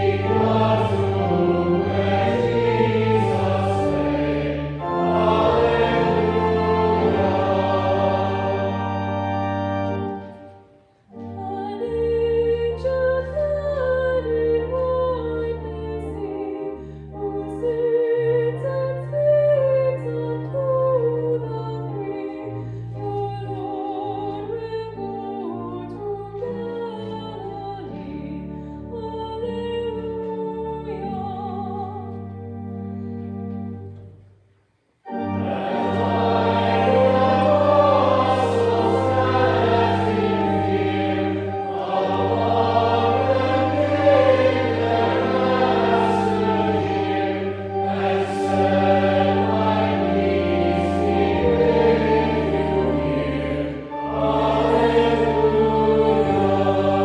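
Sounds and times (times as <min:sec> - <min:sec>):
congregation singing a hymn: 0:00.0 - 0:26.5, 0:35.0 - 0:57.0
church organ chords: 0:00.0 - 0:29.0, 0:35.0 - 0:57.0.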